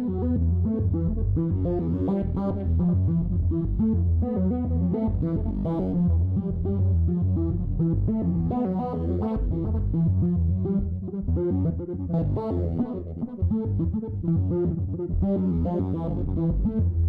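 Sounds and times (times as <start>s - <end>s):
heavy bass line: 0.0s - 17.0s.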